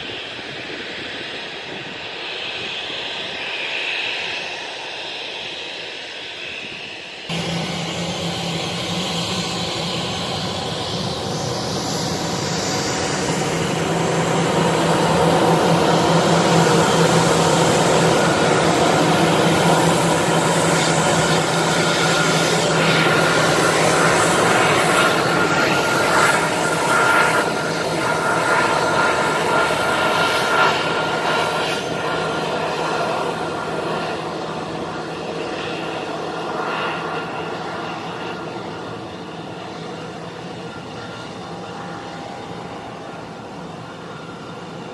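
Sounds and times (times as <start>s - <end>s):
jet engines rushing and whining: 0.0s - 44.9s.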